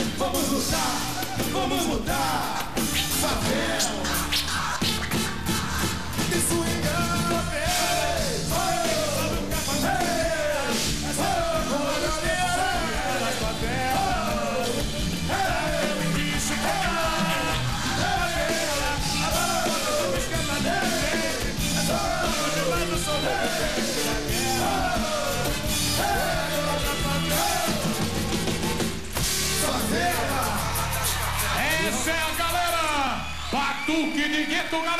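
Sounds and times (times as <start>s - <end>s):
horn section: 0.0s - 32.5s
drums: 0.0s - 34.2s.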